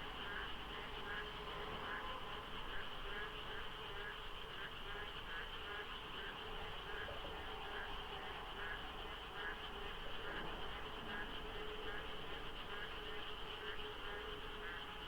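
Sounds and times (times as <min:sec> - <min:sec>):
chorus of frogs calling: 0:00.0 - 0:15.0.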